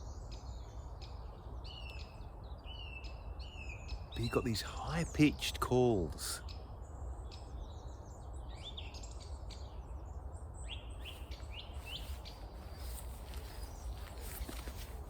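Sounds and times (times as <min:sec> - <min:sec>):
low rumble of wind: 0:00.0 - 0:15.0
small birds chirping: 0:00.0 - 0:15.0.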